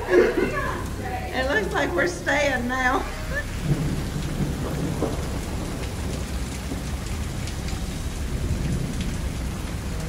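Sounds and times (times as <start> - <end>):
heavy rain: 0.0 - 10.0
low rumble: 0.0 - 10.0.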